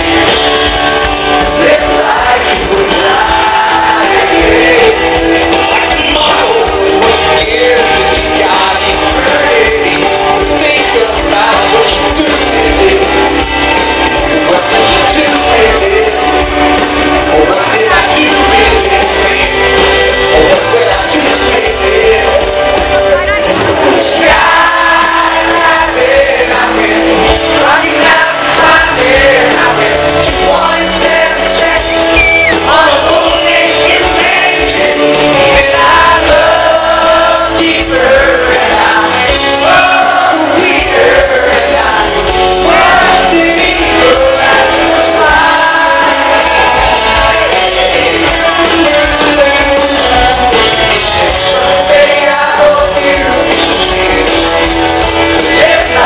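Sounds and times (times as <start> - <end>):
live country band: 0.0 - 56.0
man singing: 0.0 - 56.0.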